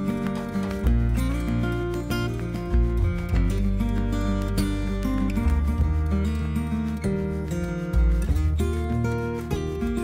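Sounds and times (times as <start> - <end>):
instrumental guitar and bass music: 0.0 - 10.0.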